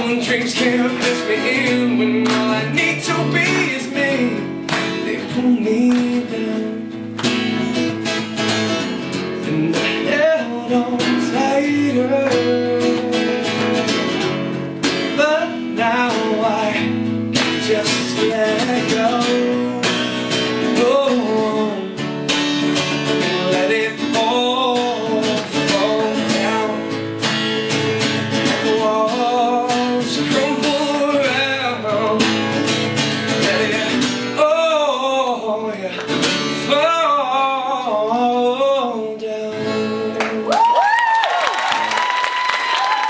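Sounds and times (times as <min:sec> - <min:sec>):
man singing: 0:00.0 - 0:07.8, 0:09.4 - 0:40.7
acoustic guitar strumming: 0:00.0 - 0:40.5.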